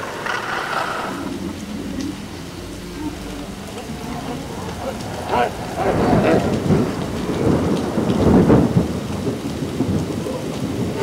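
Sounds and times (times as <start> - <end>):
loud rumbling rushing noise: 0.0 - 11.0.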